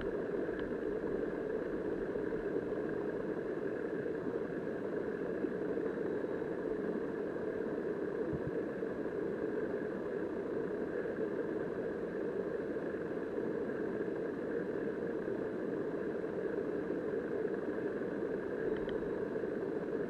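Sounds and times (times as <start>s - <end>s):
muffled underwater river current: 0.0s - 20.0s.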